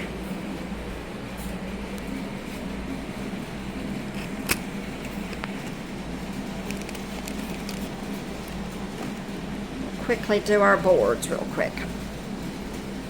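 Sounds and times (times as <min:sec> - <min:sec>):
appliance or fan hum: 0:00.0 - 0:13.0.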